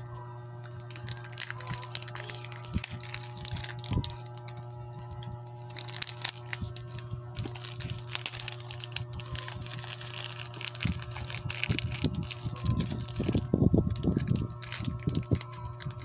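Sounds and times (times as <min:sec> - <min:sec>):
plastic bag crinkling: 0:00.6 - 0:16.0.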